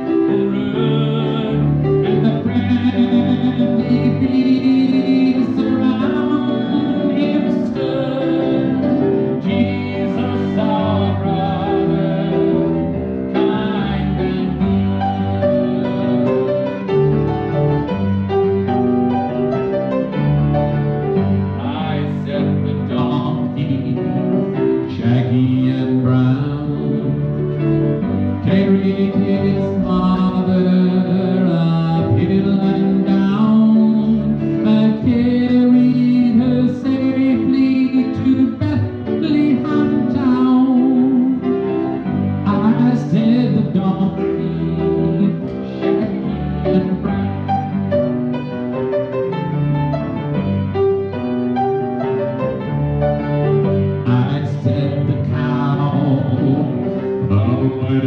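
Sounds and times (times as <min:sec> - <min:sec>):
slow piano piece: 0:00.0 - 0:58.0.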